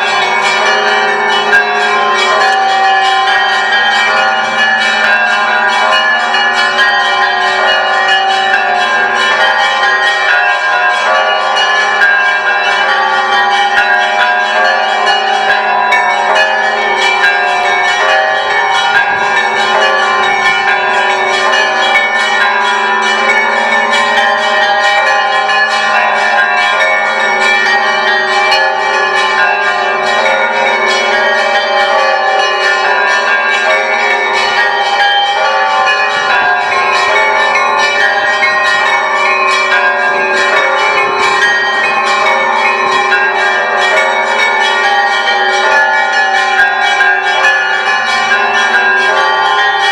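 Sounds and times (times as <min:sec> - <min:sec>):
large bells humming: 0:00.0 - 0:49.9
small bells ringing rapidly: 0:00.0 - 0:49.9.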